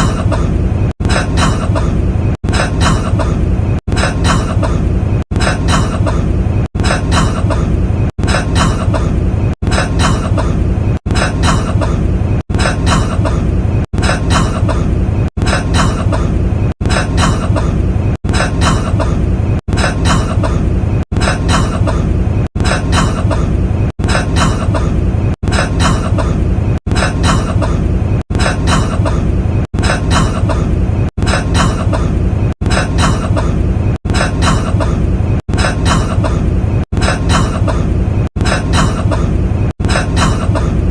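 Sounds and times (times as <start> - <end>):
man coughing: 0.0 - 19.2, 19.8 - 40.8.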